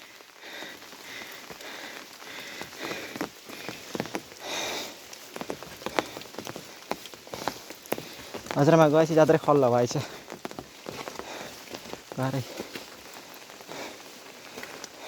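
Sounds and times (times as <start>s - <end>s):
rain falling: 0.0s - 15.0s
raindrops tapping close by: 0.0s - 15.0s.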